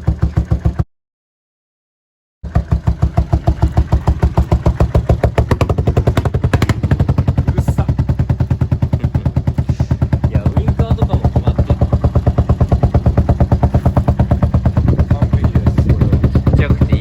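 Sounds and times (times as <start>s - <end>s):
motorcycle engine idling: 0.0s - 0.8s, 2.4s - 17.0s.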